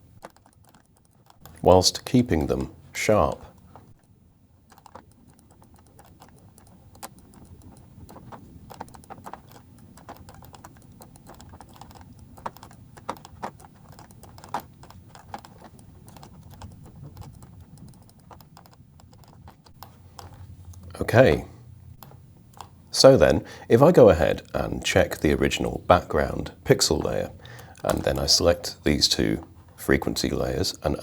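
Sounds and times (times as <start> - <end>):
computer mouse clicking and tapping: 0.0 - 2.7, 3.4 - 21.2, 22.0 - 22.8, 24.4 - 30.2.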